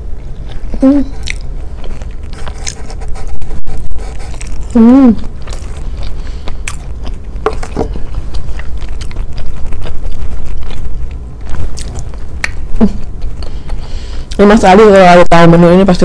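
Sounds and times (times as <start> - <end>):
close chewing with wet mouth clicks: 0.0 - 14.5
closed-mouth hum: 0.0 - 16.0.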